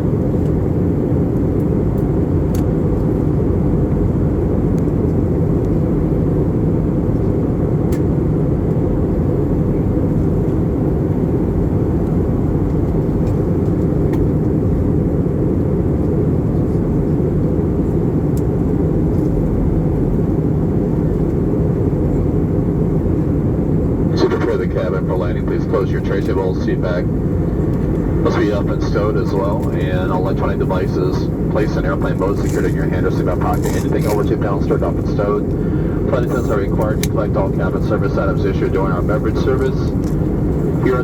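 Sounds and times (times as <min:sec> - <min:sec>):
airplane cabin engine roar: 0:00.0 - 0:41.0.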